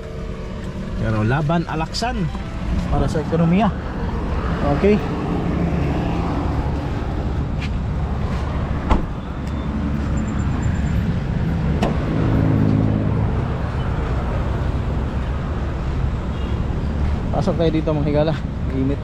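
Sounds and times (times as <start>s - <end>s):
road traffic noise: 0.0s - 19.0s
vehicle engine rumbling: 0.0s - 19.0s.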